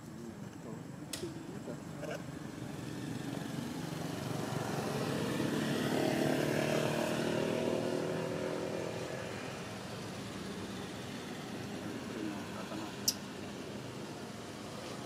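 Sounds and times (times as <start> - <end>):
vehicle engine passing by: 2.4 - 15.0.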